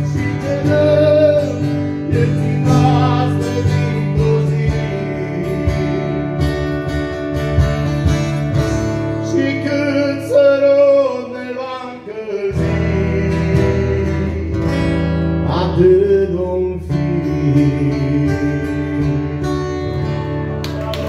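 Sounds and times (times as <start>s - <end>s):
man singing: 0.0s - 6.7s, 8.2s - 19.6s
amplified guitar: 0.0s - 21.0s.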